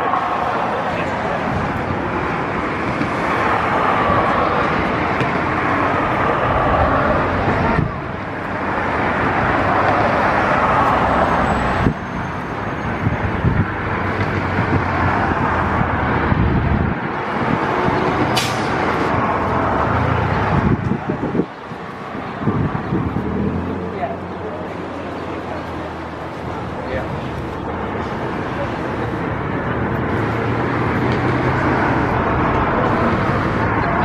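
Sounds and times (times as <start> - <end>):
vehicle traffic: 0.0 - 34.0.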